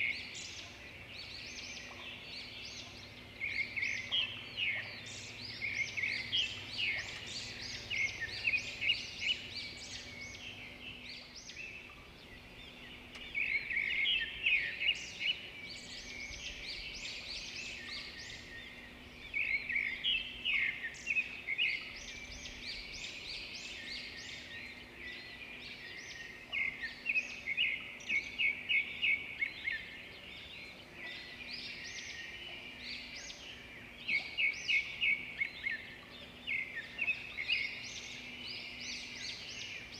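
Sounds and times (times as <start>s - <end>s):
quiet bird calls: 0.0s - 39.9s
songbirds chirping: 0.0s - 39.9s.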